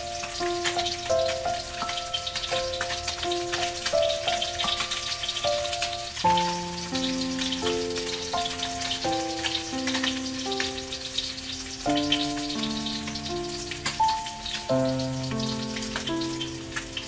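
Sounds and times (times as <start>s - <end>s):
fish sizzling in oil: 0.0s - 17.0s
keyboard background music: 0.0s - 17.0s.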